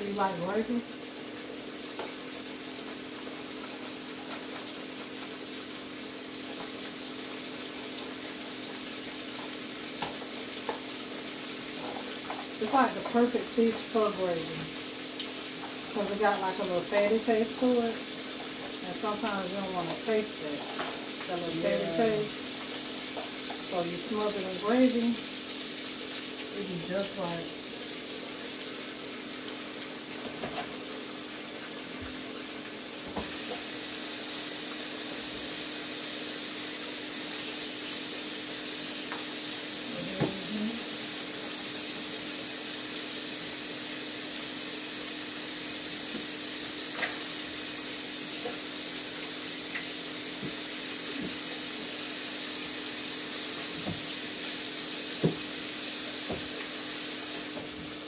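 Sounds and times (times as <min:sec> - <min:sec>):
fish frying in hot oil: 0:00.0 - 0:58.0.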